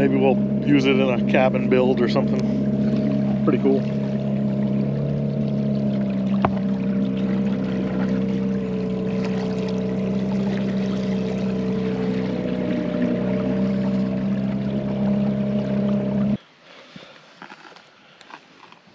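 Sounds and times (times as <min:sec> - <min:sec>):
outboard motor running: 0:00.0 - 0:16.4
water washing past hull: 0:00.0 - 0:17.2.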